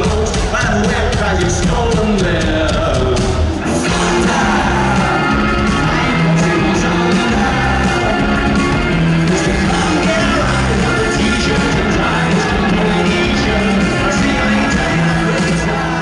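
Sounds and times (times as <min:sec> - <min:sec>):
live rock band playing: 0:00.0 - 0:16.0
person singing lead vocal: 0:00.0 - 0:16.0.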